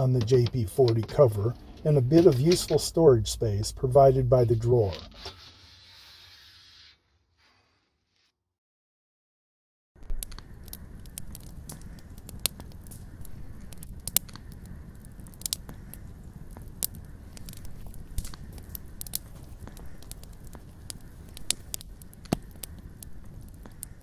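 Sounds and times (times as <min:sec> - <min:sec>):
wood fire crackling and popping: 0:00.0 - 0:05.4, 0:10.0 - 0:24.0
low fire rumble: 0:00.0 - 0:05.7, 0:10.0 - 0:24.0.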